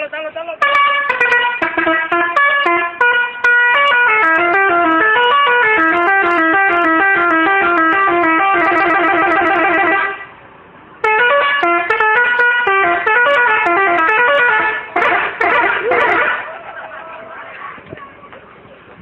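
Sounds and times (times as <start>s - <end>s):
musical horn melody: 0.6s - 10.3s, 11.0s - 16.6s.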